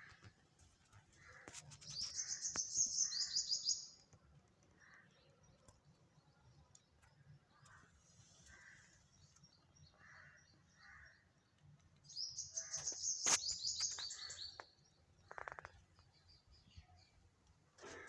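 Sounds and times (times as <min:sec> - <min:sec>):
soft bird calls: 0:01.0 - 0:11.4, 0:12.0 - 0:18.0.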